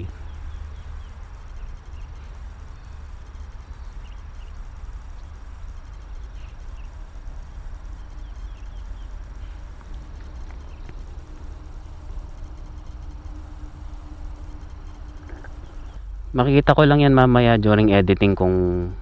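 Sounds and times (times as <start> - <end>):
high bird chirps: 0.0 - 16.1
steady low rumble: 0.0 - 19.0.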